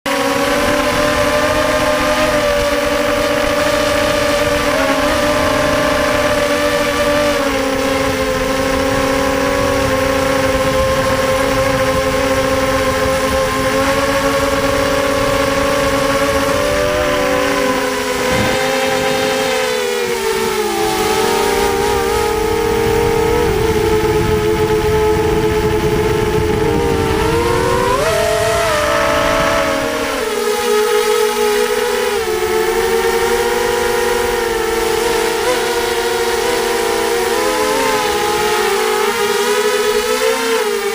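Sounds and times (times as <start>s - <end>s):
quadcopter motors buzzing: 0.1s - 40.9s.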